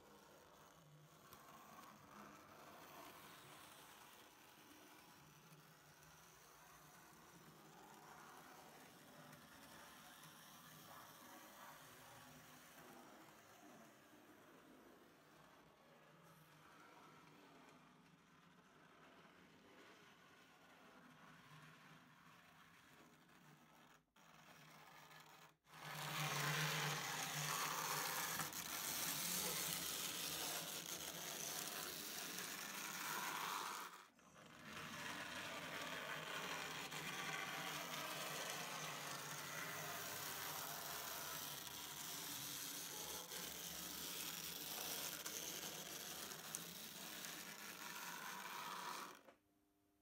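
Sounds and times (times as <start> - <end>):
model train motors whirring: 0.0 - 49.3.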